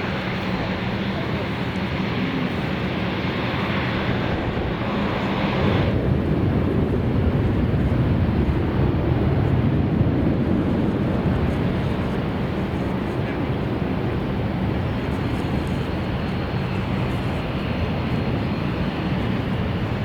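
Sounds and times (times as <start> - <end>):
airliner engines rumbling: 0.0 - 20.0
wind buffeting microphone: 0.0 - 20.0.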